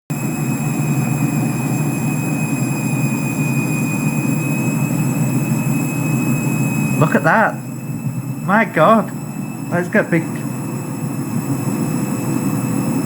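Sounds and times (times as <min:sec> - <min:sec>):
thin high whine: 0:00.1 - 0:13.0
washing machine low rumble: 0:00.1 - 0:13.0.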